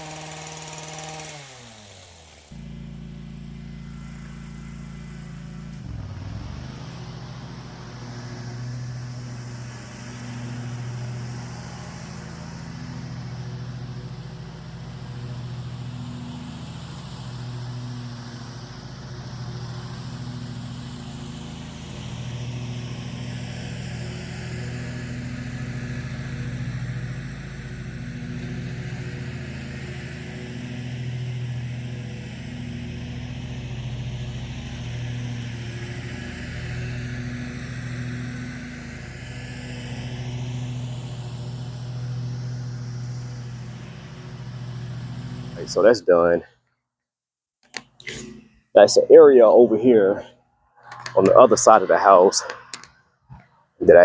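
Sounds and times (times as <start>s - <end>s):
petrol trimmer engine revving: 0.0s - 46.4s.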